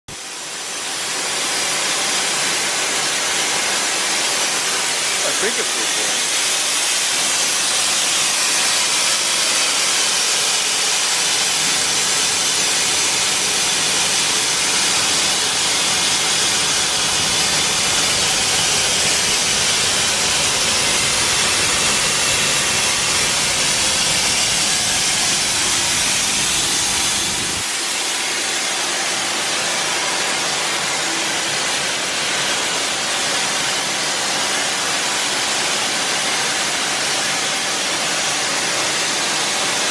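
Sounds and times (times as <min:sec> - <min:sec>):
machinery hissing: 0:00.1 - 0:36.2.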